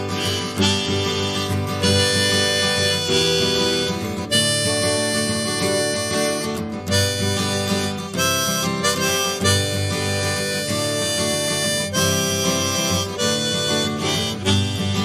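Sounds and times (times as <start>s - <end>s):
bluesy harmonica and guitar music: 0.0s - 15.0s.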